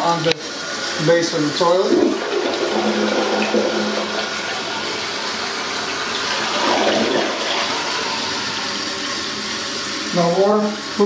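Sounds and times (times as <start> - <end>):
toilet flushing: 0.0 - 11.0.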